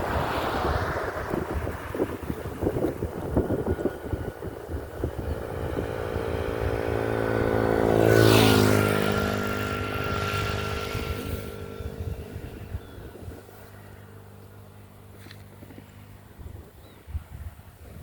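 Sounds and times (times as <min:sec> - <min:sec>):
motor vehicle driving past: 0:00.0 - 0:16.6
wind buffeting microphone: 0:00.0 - 0:18.0.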